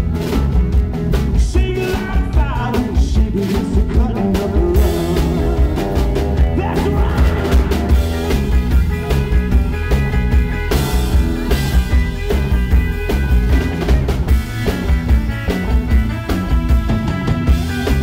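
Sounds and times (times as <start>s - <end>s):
rock and roll band playing: 0.0s - 18.0s.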